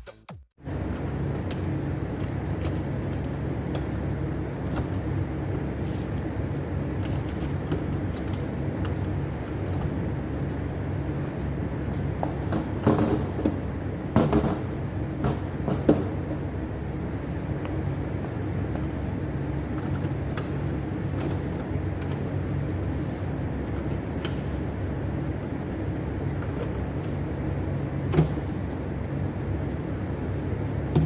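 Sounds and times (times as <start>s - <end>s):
low mechanical hum: 0.6s - 31.0s.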